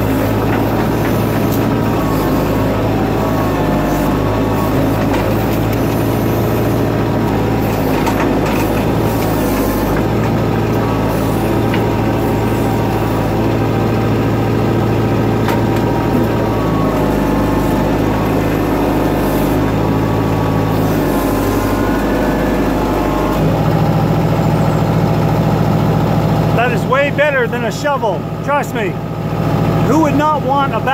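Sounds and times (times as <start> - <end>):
backhoe diesel engine running: 0.0 - 30.9.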